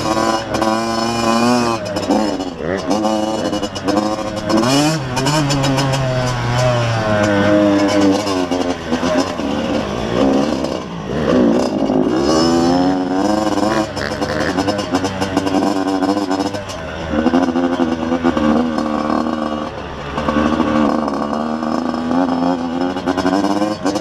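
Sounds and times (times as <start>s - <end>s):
two-stroke motorcycle engine revving: 0.0s - 24.0s.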